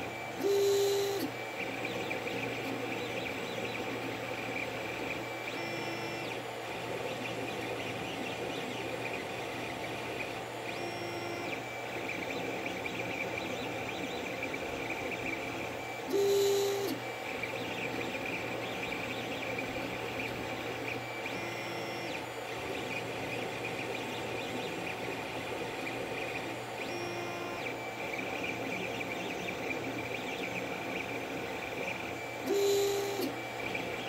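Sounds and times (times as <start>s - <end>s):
printer fan hum: 0.0s - 34.0s
stepper motors whining: 0.0s - 34.0s.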